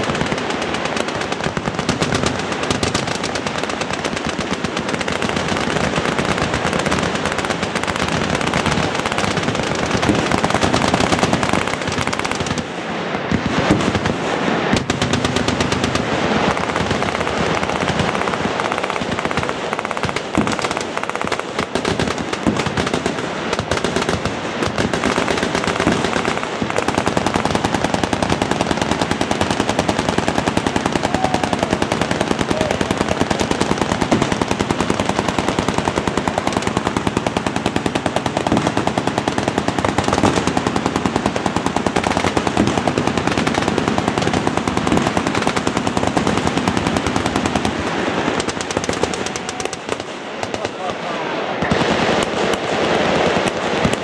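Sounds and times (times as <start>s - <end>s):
machine guns firing: 0.0s - 54.0s.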